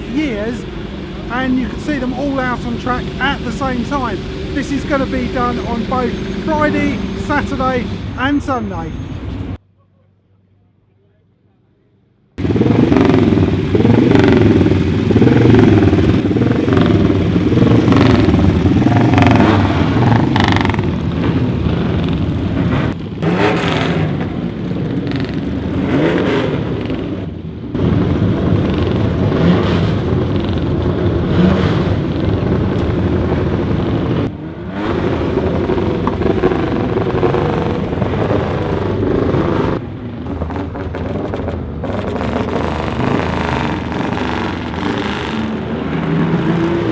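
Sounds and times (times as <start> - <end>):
racing car engines revving: 0.0 - 9.6, 12.4 - 46.9.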